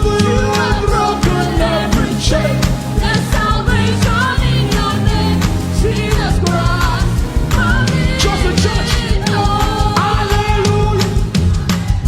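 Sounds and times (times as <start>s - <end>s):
person singing: 0.0s - 11.4s
drum beat: 0.0s - 12.0s
gospel band playing: 0.0s - 12.0s.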